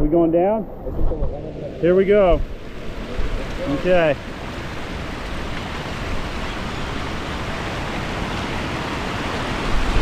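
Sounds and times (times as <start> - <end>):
water rushing over waterfalls: 1.1 - 10.0.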